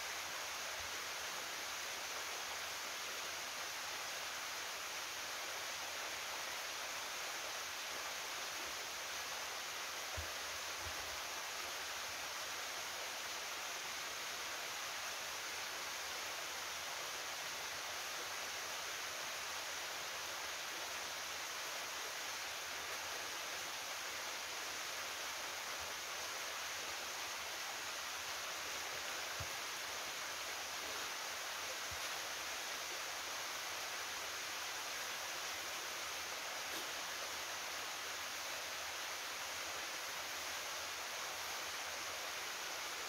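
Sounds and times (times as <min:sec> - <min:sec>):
small waterfall rushing: 0:00.0 - 0:43.0.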